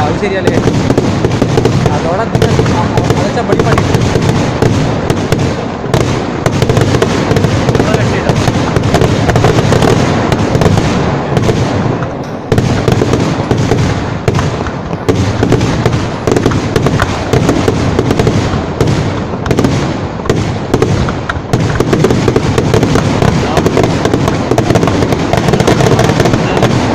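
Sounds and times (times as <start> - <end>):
fireworks cracking and banging: 0.0 - 26.9.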